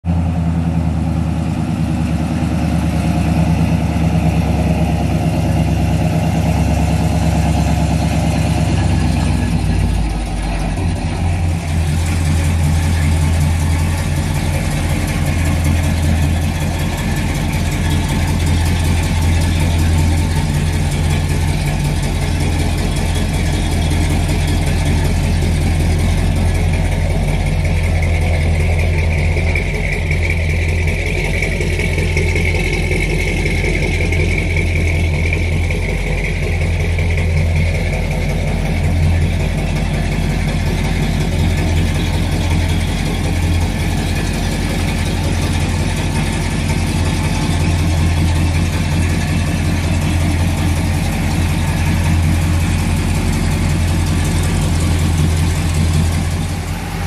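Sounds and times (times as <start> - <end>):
pickup engine idling: 0.0 - 57.0.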